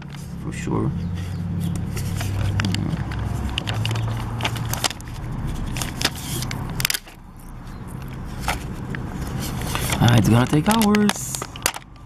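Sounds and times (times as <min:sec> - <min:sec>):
stickers crackling and clicking: 0:01.5 - 0:12.0.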